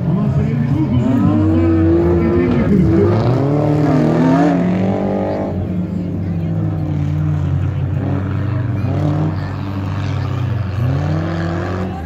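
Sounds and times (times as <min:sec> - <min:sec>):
engines revving: 0:00.0 - 0:12.0.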